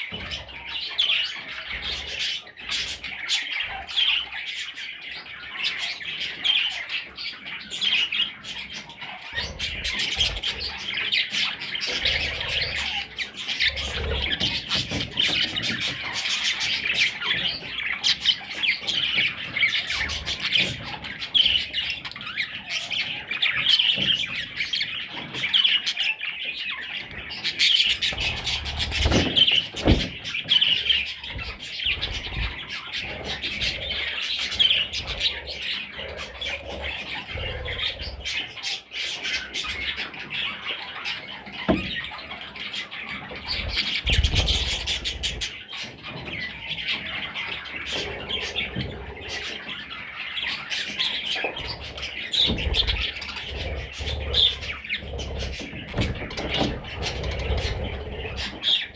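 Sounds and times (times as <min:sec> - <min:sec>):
budgie chicks chirping: 0:00.0 - 0:58.9.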